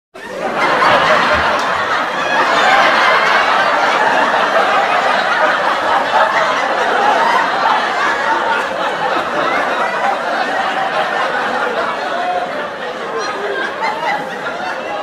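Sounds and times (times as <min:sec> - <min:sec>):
audience laughing: 0:00.2 - 0:15.0.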